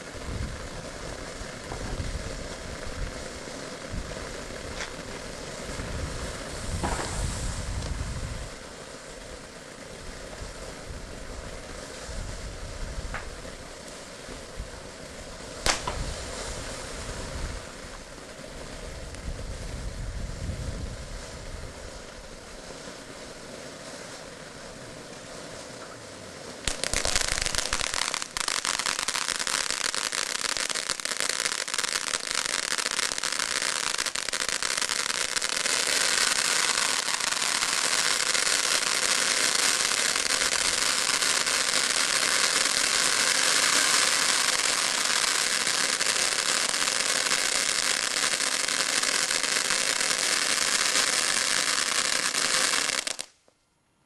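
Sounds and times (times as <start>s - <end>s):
firework fountain hissing: 0.0s - 53.4s
dense crackling hiss: 0.0s - 54.0s.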